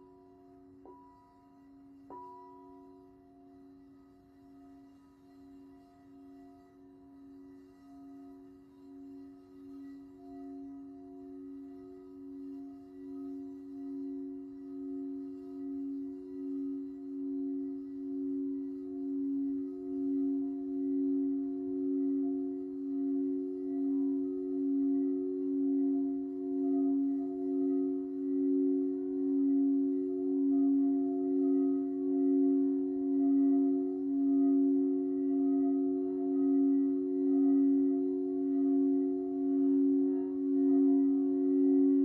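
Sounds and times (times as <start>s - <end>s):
crystal singing bowls ringing: 0.0s - 42.0s.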